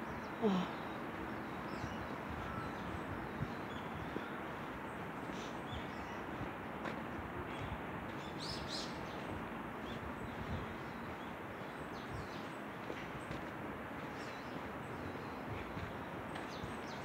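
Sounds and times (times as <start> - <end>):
small birds chirping: 0.0 - 17.0
steady outdoor hiss: 0.0 - 17.0.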